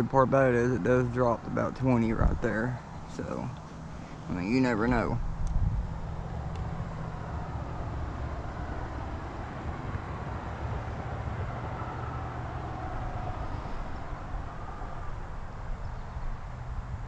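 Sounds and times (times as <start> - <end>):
traffic rumble with tyre hiss: 0.0 - 17.0.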